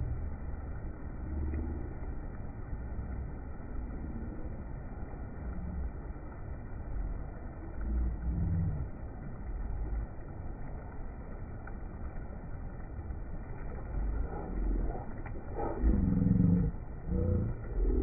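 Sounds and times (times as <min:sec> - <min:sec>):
surf washing in and out: 0:00.0 - 0:18.0
wind rumble on microphone: 0:00.0 - 0:18.0.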